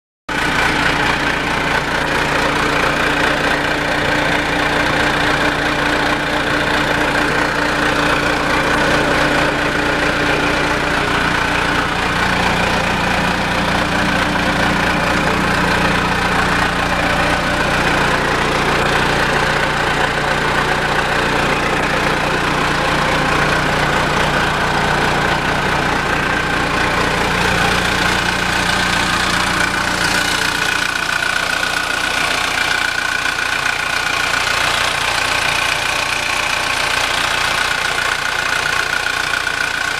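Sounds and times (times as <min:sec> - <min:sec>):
forklift engine idling: 0:00.3 - 0:39.9.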